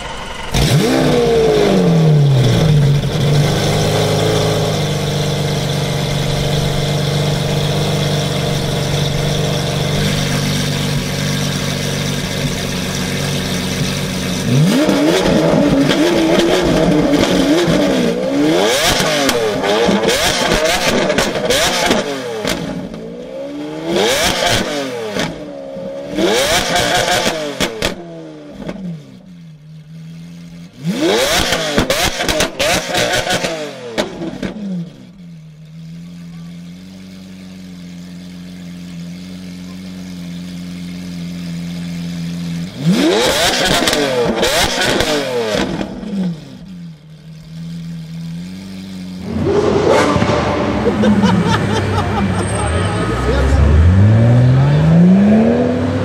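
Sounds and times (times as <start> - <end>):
car engine revving and idling: 0.0 - 56.0.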